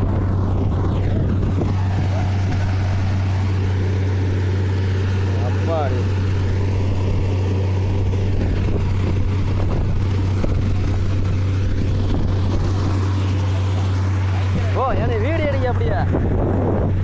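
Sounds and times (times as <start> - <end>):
air blowing water and mud: 0.0 - 17.0
drilling rig humming: 0.0 - 17.0.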